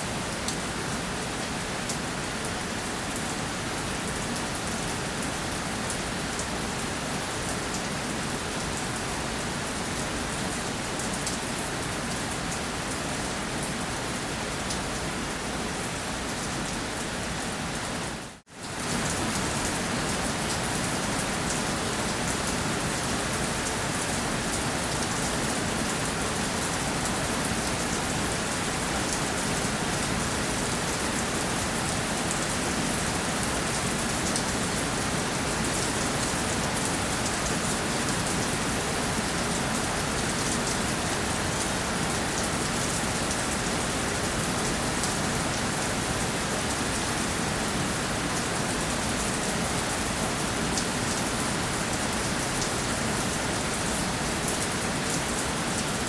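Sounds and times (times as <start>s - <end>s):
rain pattering on surface: 0.1s - 13.9s, 16.0s - 56.0s.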